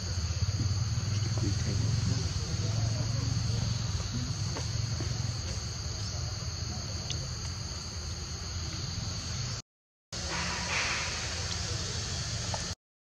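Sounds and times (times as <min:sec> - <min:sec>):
insects droning: 0:00.0 - 0:09.6, 0:10.2 - 0:12.8.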